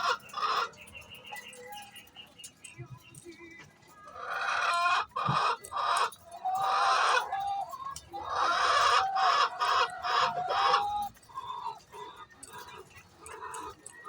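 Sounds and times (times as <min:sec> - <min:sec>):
hen clucking: 0:00.0 - 0:01.9, 0:02.8 - 0:14.0.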